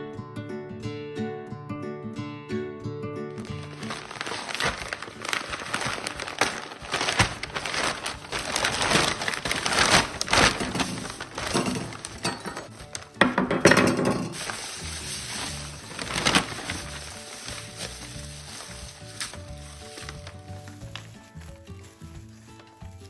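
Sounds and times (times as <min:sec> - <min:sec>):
paper and plastic bag crinkling: 0:03.4 - 0:23.0.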